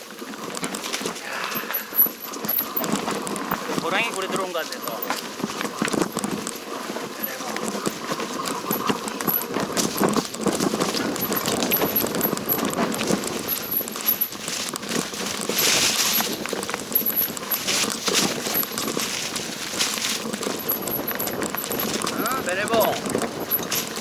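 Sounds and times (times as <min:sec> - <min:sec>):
footsteps on rocky trail: 0:00.0 - 0:24.0.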